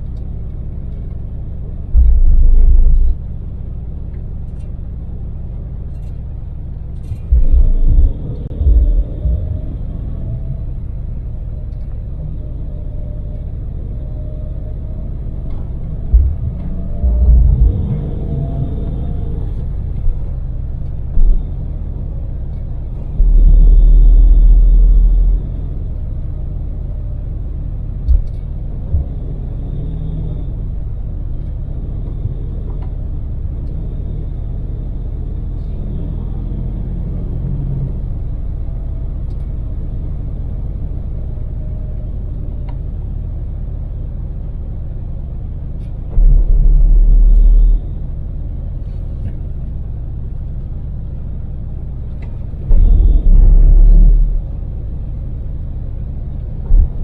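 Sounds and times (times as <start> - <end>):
engine and road rumble in cabin: 0.0 - 57.0
loud deep rumble: 0.0 - 57.0.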